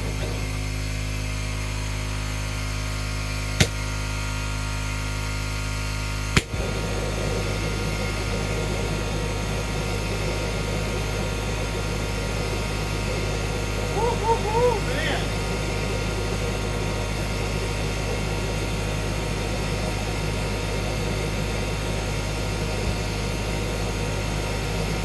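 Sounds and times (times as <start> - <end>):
air compressor humming: 0.0 - 25.0.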